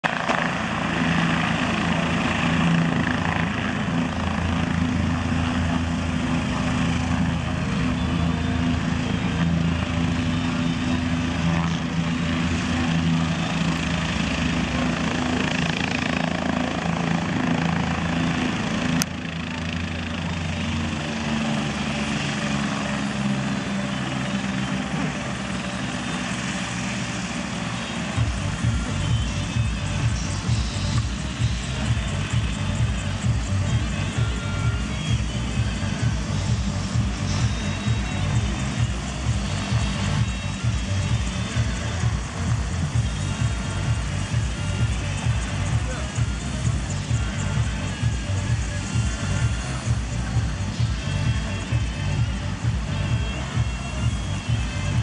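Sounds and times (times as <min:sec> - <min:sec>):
helicopter engine tone: 0:00.0 - 0:55.0
helicopter rotor beating: 0:00.0 - 0:55.0.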